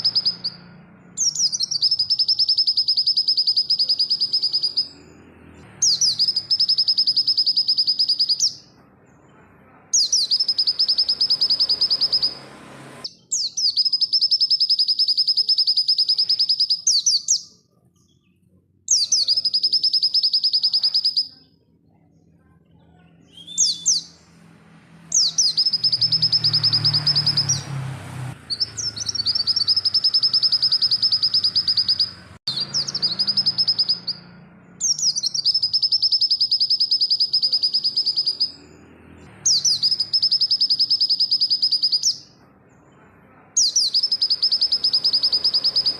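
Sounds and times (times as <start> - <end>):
bird singing trilled phrases: 0.0 - 45.9.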